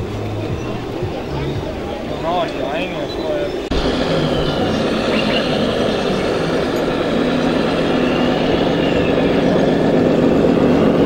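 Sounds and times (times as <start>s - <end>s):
model truck motor hum: 0.0s - 11.0s.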